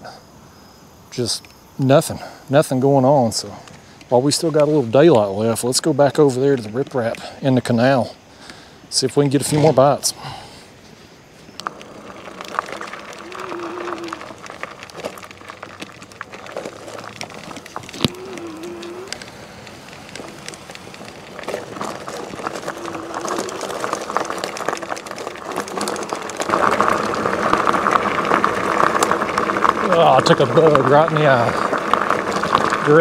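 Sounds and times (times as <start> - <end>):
tyres crunching on gravel: 1.2 - 33.0.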